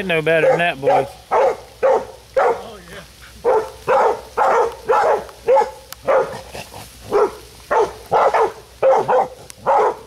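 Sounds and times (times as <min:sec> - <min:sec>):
puppies barking: 0:00.3 - 0:02.8, 0:03.4 - 0:10.0.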